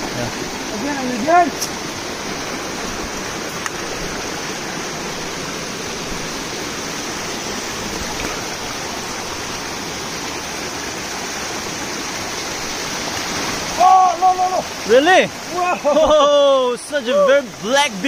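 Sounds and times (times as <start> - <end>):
stream rushing over boulders: 0.0 - 18.0.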